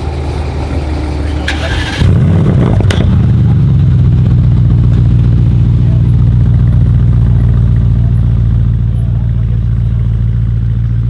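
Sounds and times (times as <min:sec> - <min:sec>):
car engine idling loud: 0:00.0 - 0:11.0.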